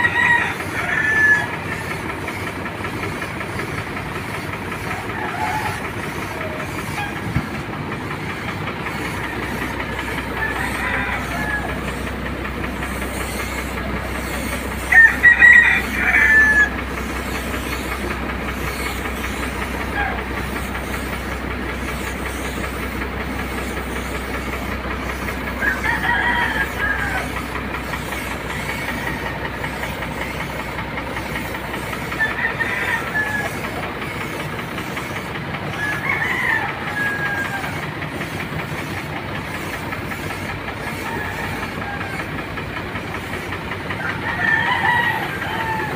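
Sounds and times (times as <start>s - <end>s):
air spray gun hissing: 0.0s - 45.9s
roosters crowing: 0.0s - 45.9s.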